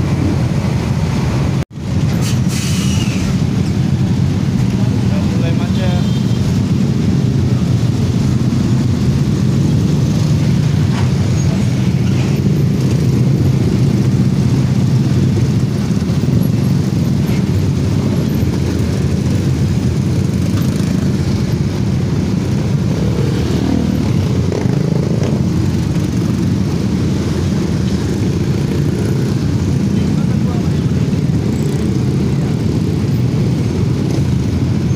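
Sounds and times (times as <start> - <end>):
motorcycles and scooters droning: 3.4 - 34.9.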